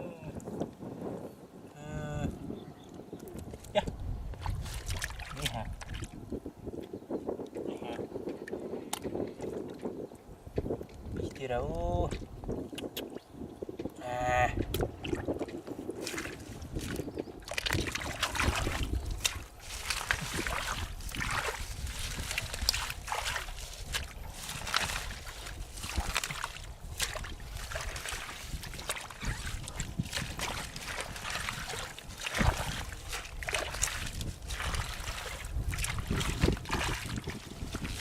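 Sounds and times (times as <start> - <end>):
water splashing and sloshing: 3.1 - 11.4, 14.6 - 38.0.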